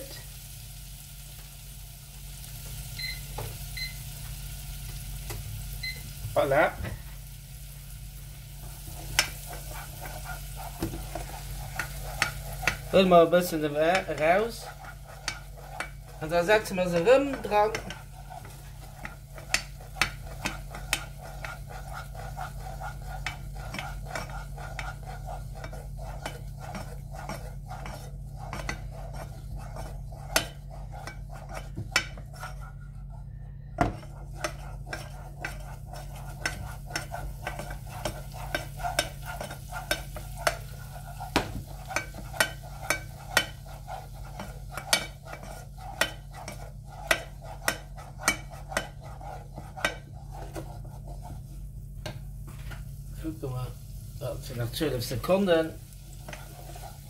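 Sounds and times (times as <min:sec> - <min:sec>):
onions sizzling: 0:00.0 - 0:32.8, 0:33.9 - 0:57.0
wooden spoon scraping a pan: 0:08.3 - 0:57.0.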